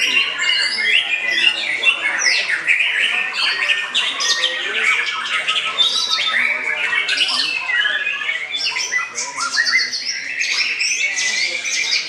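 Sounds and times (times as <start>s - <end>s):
other songbirds singing: 0.0s - 12.0s.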